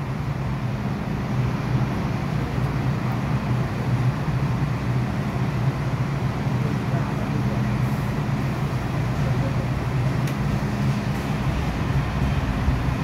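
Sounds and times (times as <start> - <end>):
train equipment humming: 0.0 - 13.0.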